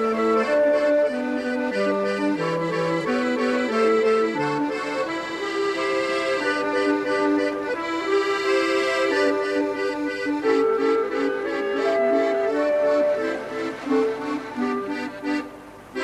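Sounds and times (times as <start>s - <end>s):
accordion music: 0.0s - 16.0s.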